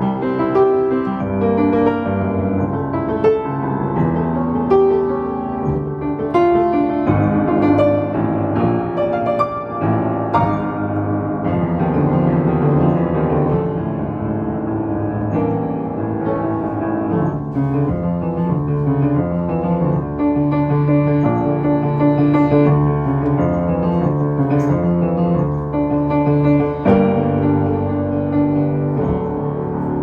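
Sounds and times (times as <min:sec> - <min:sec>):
piano playing: 0:00.0 - 0:30.0.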